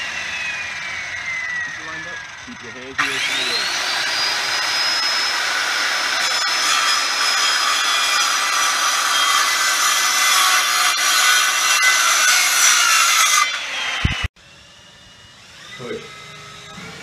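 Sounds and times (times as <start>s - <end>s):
circular saw cutting wood: 0.0s - 17.0s.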